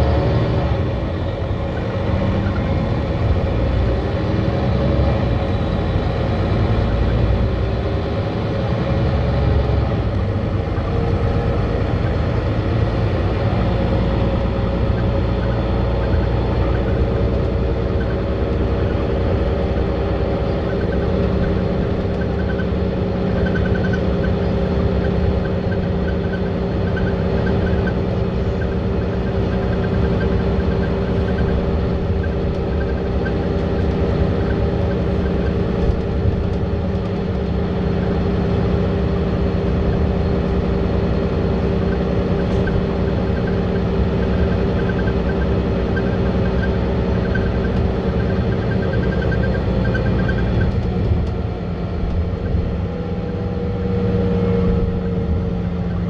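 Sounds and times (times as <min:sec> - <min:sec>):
bus engine and road rumble: 0:00.0 - 0:56.0
constant hum: 0:10.0 - 0:56.0.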